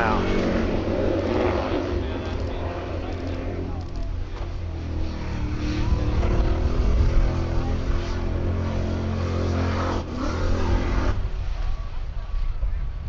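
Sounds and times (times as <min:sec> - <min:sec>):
buggy engine revving: 0:00.0 - 0:11.6.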